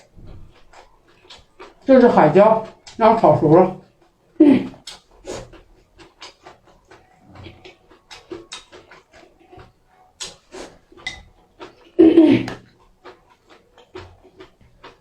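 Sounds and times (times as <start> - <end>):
wet chewing and lip-smacking: 0.0 - 15.0.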